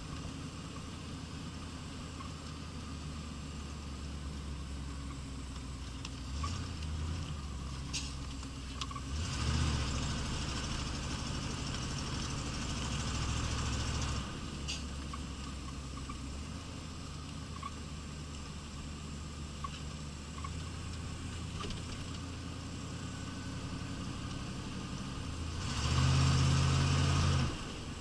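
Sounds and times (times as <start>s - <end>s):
car engine running: 0.0s - 28.0s
road noise inside car: 0.0s - 28.0s.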